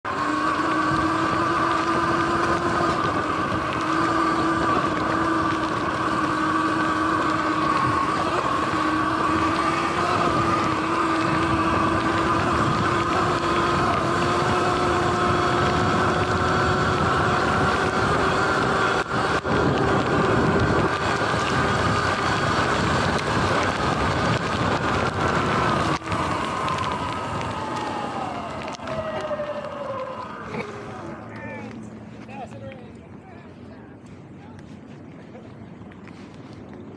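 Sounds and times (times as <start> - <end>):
electric motor whine: 0.0 - 32.2
rushing wind: 0.0 - 32.5
tyre noise: 0.1 - 32.9.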